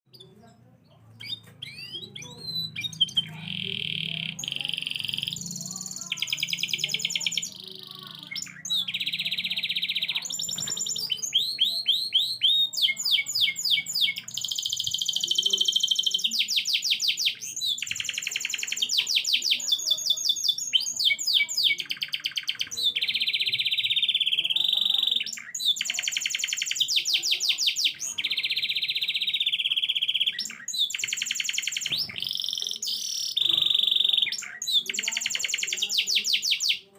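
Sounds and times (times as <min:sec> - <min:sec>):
canary singing: 0:00.1 - 0:36.9.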